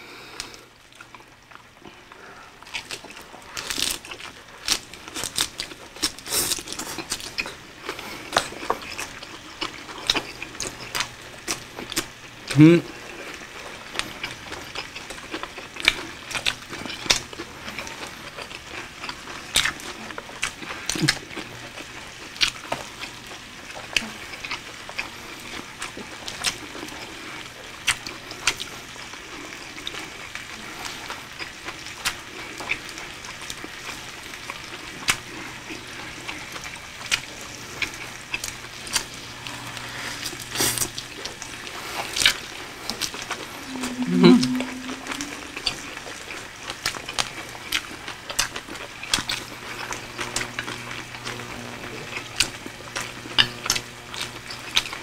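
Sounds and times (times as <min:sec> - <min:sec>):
wet chewing of lettuce: 0:00.3 - 0:55.0.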